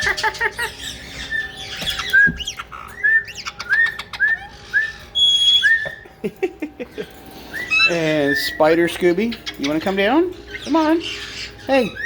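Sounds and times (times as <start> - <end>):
parrots chirping: 0.0 - 12.0.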